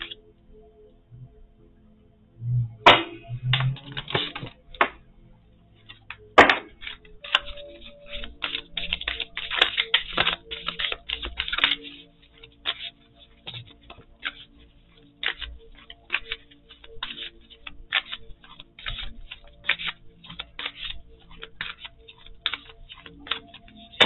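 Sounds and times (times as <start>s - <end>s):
cards being shuffled: 2.9s - 5.0s, 5.8s - 24.0s.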